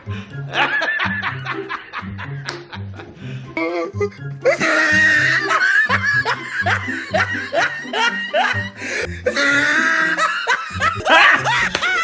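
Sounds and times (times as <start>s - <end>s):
people laughing: 0.2s - 3.2s, 4.0s - 12.0s.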